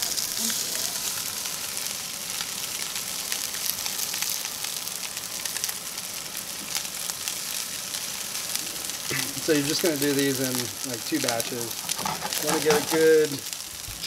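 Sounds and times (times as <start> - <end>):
cakes sizzling in oil: 0.0 - 14.0.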